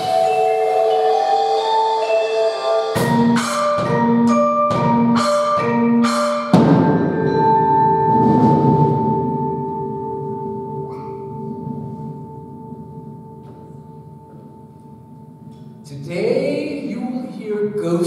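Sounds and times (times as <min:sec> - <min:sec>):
percussion ensemble playing: 0:00.0 - 0:17.1.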